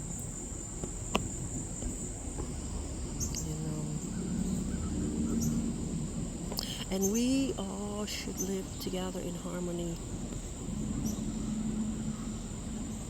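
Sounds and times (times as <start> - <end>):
cricket chorus trilling: 0.0 - 13.0.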